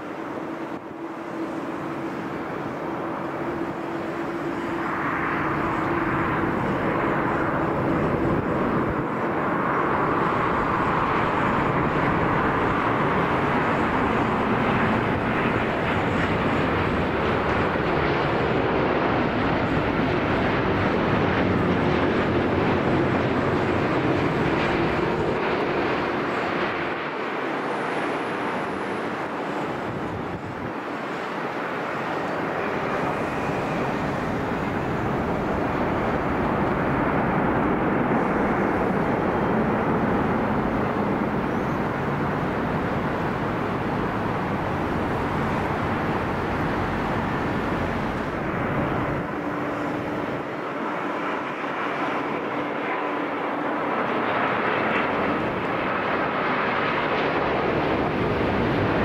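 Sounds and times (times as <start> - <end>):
jet airliner engine hum: 0.0 - 59.0.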